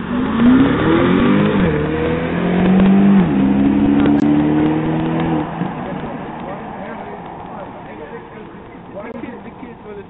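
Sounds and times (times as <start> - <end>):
car engine accelerating hard: 0.0 - 9.8.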